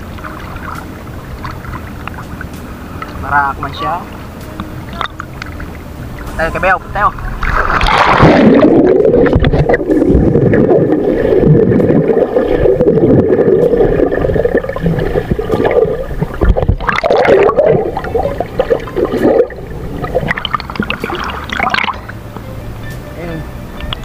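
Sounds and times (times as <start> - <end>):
water gurgling and sloshing: 0.0 - 24.0.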